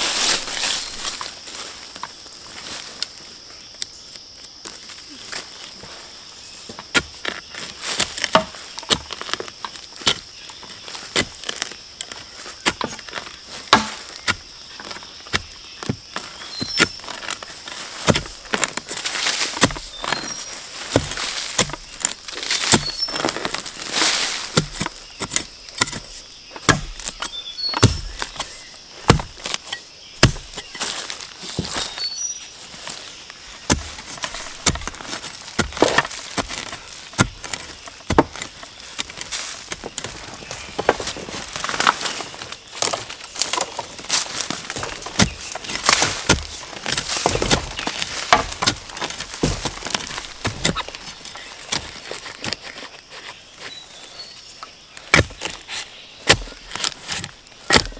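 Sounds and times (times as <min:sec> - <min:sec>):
bamboo being chopped: 0:06.7 - 0:32.0, 0:33.6 - 0:53.8, 0:55.0 - 0:57.9.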